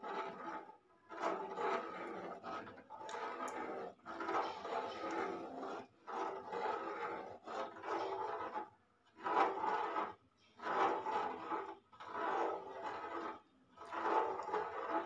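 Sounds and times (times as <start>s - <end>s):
metal spoon scraping a pot: 0.1s - 15.0s.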